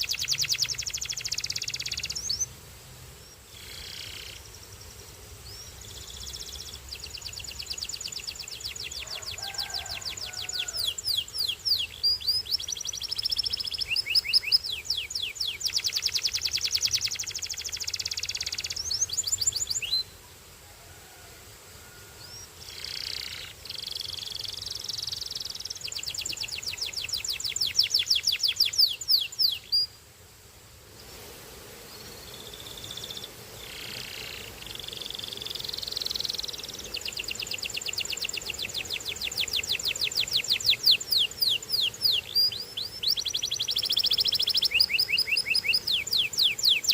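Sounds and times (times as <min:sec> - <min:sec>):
canary singing trills: 0:00.0 - 0:02.5, 0:05.5 - 0:20.2, 0:22.2 - 0:30.0, 0:32.2 - 0:46.9.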